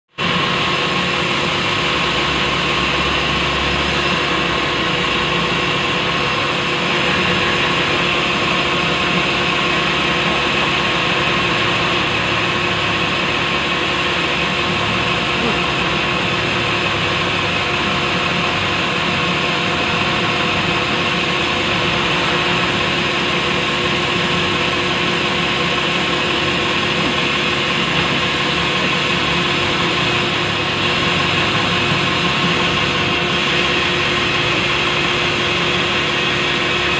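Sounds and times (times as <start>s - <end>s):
band saw cutting log: 0.2s - 36.9s.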